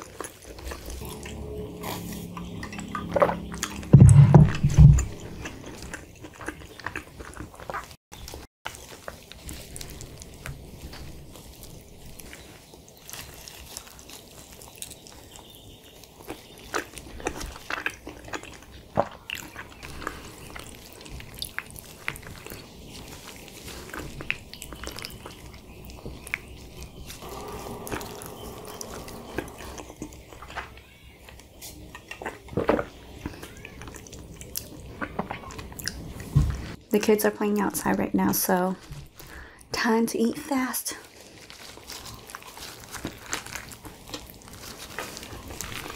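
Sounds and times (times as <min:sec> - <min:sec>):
person chewing food: 0:00.0 - 0:36.8, 0:41.1 - 0:45.9
soft squishing of food: 0:00.0 - 0:45.9.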